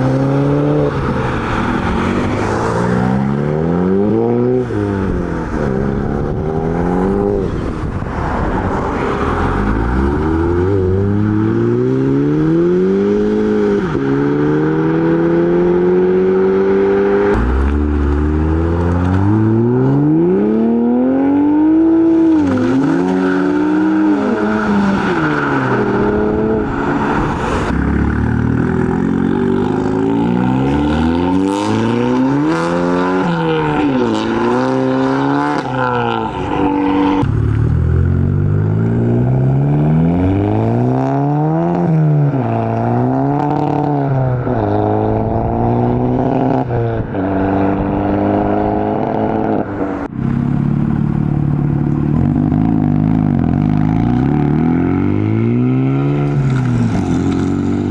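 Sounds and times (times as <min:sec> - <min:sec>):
car engines revving: 0:00.0 - 0:57.9.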